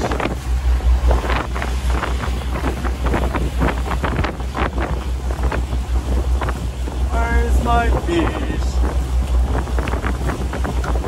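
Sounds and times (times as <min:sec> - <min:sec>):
heavy rumble: 0:00.0 - 0:11.0
wind buffeting microphone: 0:00.0 - 0:11.0.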